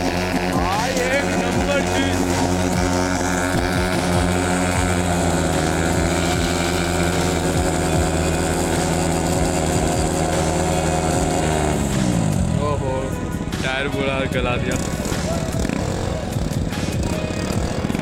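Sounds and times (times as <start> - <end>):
motorcycle engines revving high: 0.0 - 18.0.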